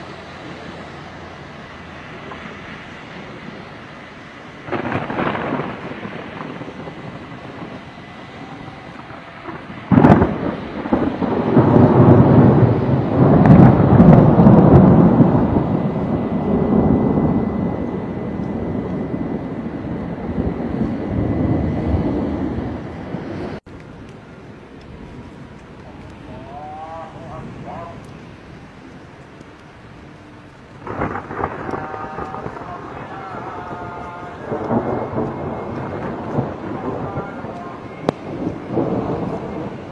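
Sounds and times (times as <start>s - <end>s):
thunder crack and rumble: 0.0s - 39.9s.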